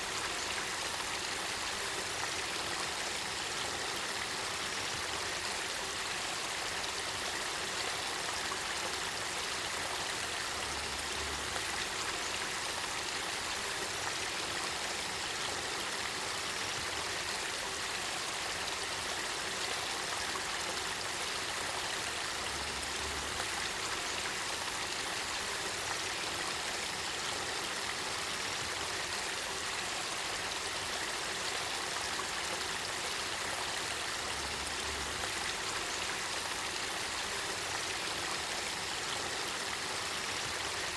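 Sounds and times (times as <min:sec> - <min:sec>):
spring water rushing and splashing: 0:00.0 - 0:40.9.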